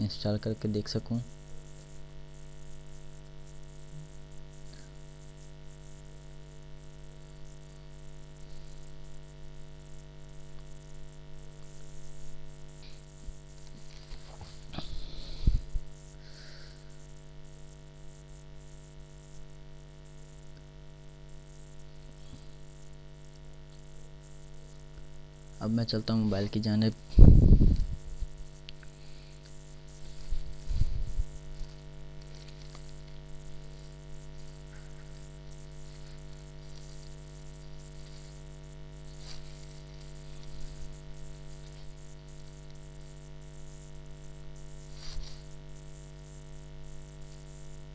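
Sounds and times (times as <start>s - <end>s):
electrical mains hum: 0.0s - 47.9s
faint buzz: 0.0s - 47.9s
microphone hiss: 0.0s - 47.9s.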